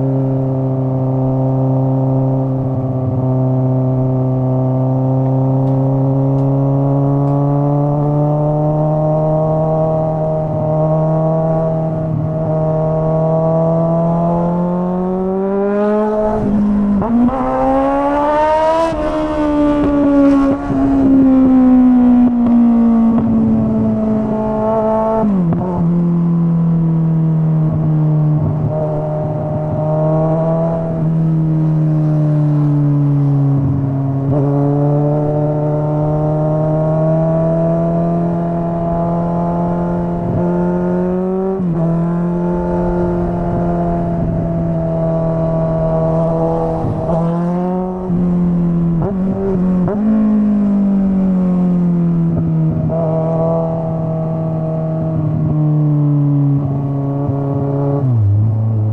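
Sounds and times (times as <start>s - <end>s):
motorcycle engine revving: 1.1s - 58.9s.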